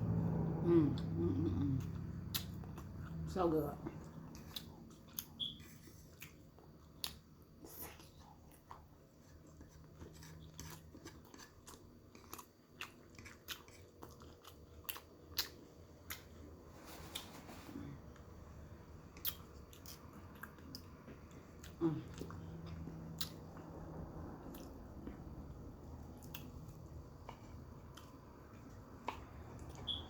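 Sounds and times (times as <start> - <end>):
person chewing food: 1.6 - 3.2, 3.9 - 30.0.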